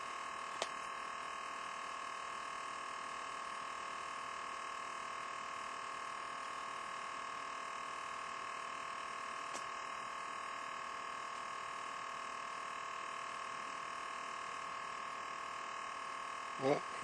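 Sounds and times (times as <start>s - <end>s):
electrical hum and high whine: 0.0s - 17.0s.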